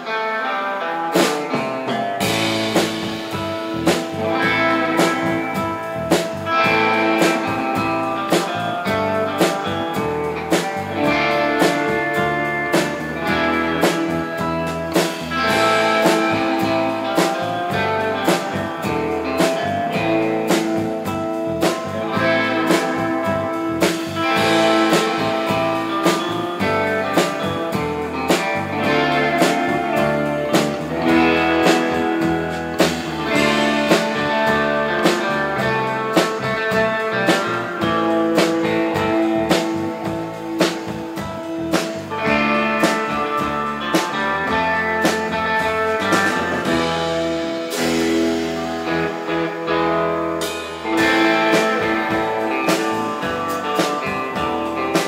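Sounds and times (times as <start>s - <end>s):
electric bass: 0.0s - 55.0s
electric guitar: 0.0s - 55.0s
drum kit beat: 1.0s - 55.0s.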